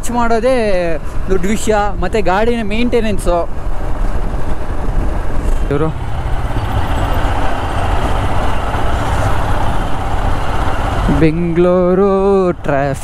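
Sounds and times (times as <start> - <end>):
city traffic noise: 0.0 - 13.0
motorcycle engine rumble: 1.9 - 12.9.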